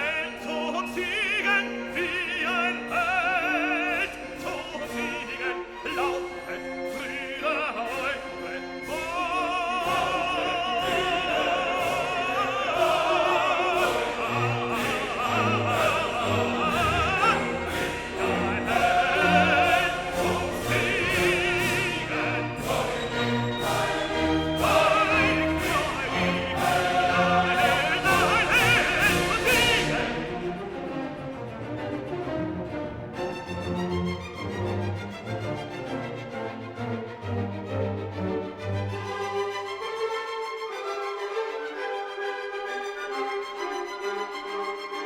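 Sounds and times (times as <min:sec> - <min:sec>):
operatic singing with orchestra: 0:00.0 - 0:45.0.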